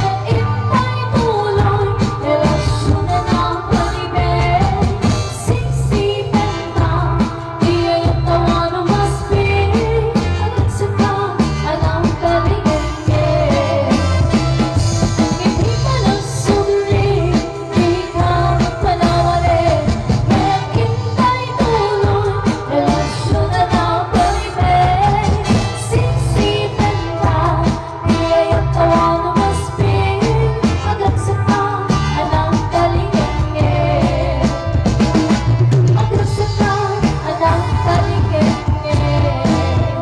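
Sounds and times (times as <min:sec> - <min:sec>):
women singing into microphones: 0:00.0 - 0:34.9, 0:35.9 - 0:40.0
bass and drum beat: 0:00.0 - 0:40.0.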